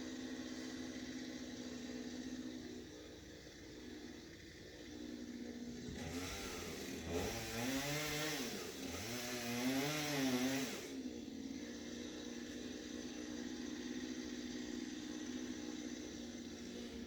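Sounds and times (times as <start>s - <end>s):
chainsaw idling and revving: 0.0s - 17.0s.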